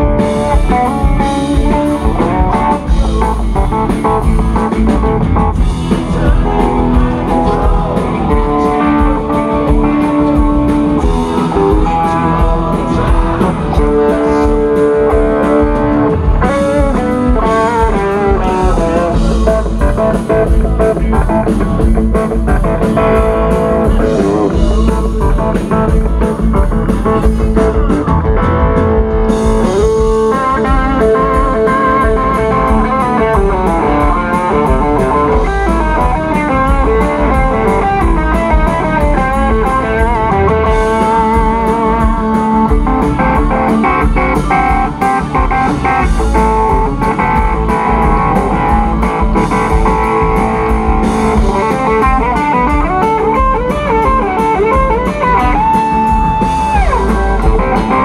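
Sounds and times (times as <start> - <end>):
drum beat: 0.0 - 58.0
electric guitar solo: 0.0 - 58.0.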